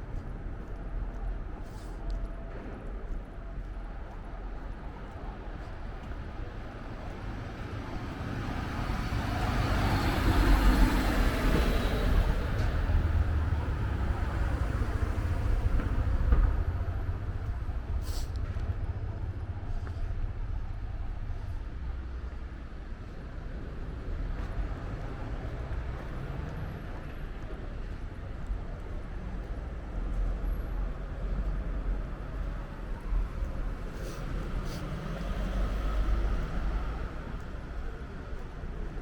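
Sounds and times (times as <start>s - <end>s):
low street rumble: 0.0s - 39.0s.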